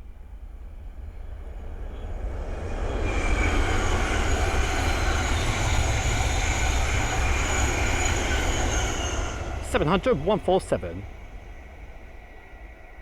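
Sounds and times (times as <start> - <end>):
train passing: 1.0 - 13.0.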